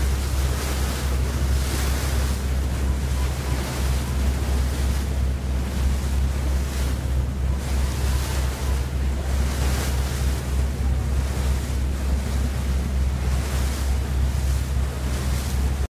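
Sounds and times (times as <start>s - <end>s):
steady low rumble: 0.0s - 15.9s
water rushing past boat: 0.0s - 15.9s.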